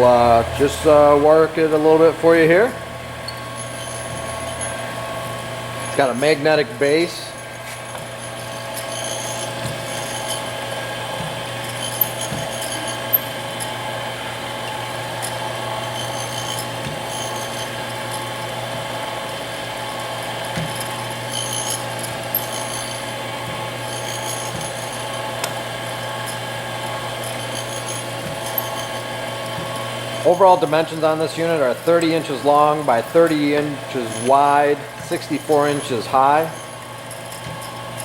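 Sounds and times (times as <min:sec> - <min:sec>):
grinder motor humming: 0:00.0 - 0:38.0.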